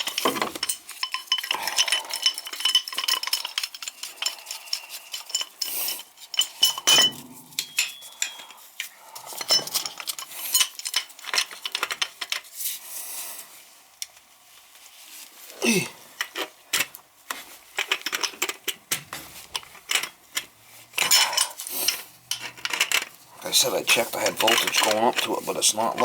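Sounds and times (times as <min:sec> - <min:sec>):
metal tools clinking and scraping: 0:00.0 - 0:12.6, 0:16.2 - 0:18.8, 0:19.4 - 0:26.0.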